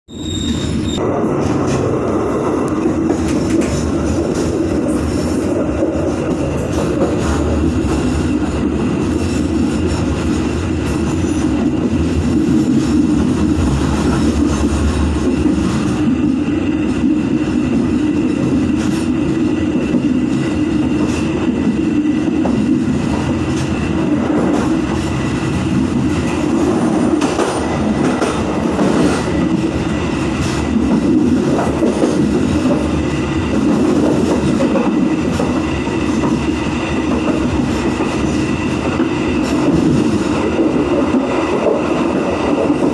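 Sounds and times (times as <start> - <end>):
freight train rumbling on rails: 0.1 - 42.9.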